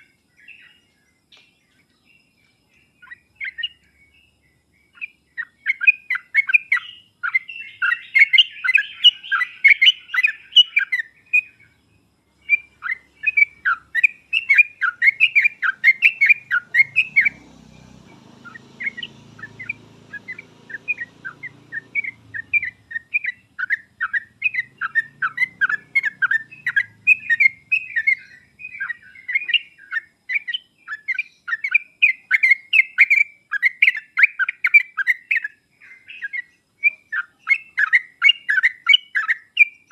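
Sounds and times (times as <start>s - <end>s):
bulbul song: 0.0s - 39.9s.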